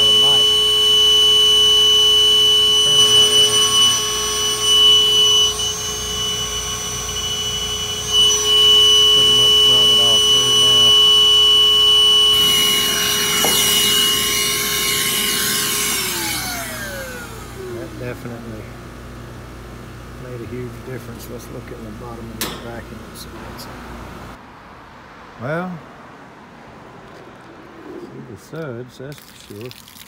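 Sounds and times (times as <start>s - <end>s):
wet dry vacuum whining: 0.0s - 24.4s.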